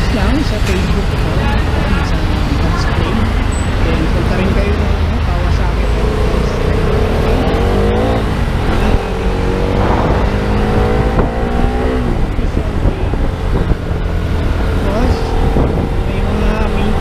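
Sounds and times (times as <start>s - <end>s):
wind and road noise: 0.0s - 17.0s
motorcycle engine accelerating: 1.4s - 17.0s.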